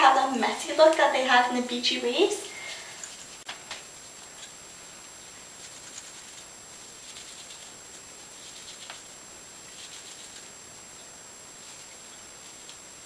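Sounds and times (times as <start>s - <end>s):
steady hiss: 0.0s - 13.0s
scratchy hair rustles: 2.0s - 13.0s.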